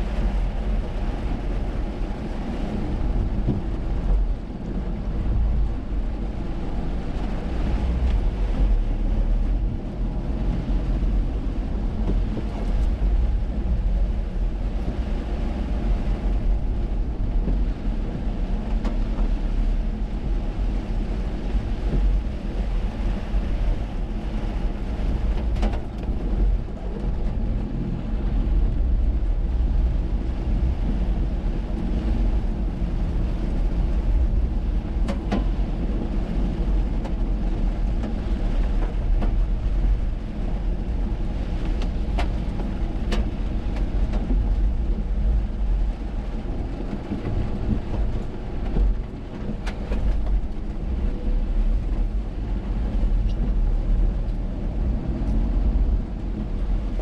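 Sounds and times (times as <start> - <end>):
engine and tyre rumble: 0.0 - 57.0
heavy rain: 0.0 - 57.0.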